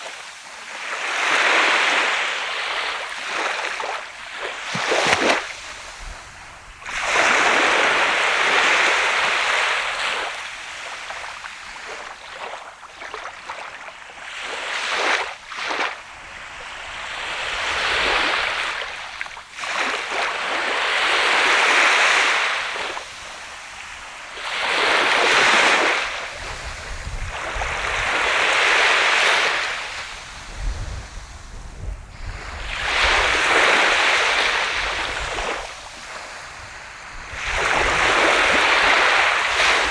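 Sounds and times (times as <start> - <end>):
waves breaking on sand beach: 0.0 - 39.9.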